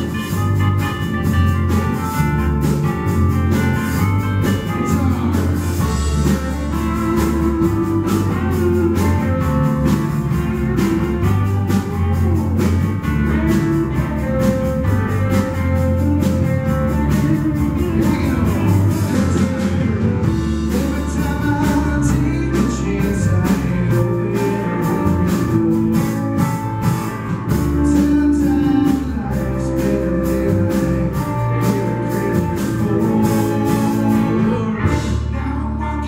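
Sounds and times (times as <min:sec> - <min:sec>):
drum kit: 0:00.0 - 0:35.4
bass guitar: 0:00.0 - 0:36.0
electric guitar: 0:00.0 - 0:36.0
keyboard: 0:00.0 - 0:36.0.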